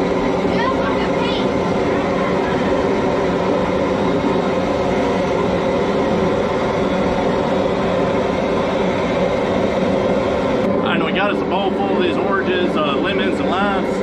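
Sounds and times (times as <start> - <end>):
propane burner roaring: 0.0 - 14.0.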